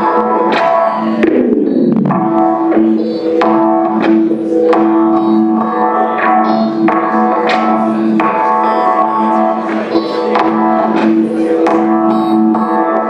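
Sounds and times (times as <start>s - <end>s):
ringing instrumental notes: 0.0s - 13.0s
two-note drone: 0.0s - 13.0s.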